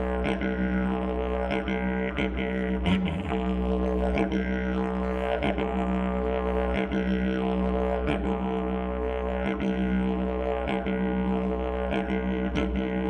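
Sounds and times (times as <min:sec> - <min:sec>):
didgeridoo drone: 0:00.0 - 0:13.0.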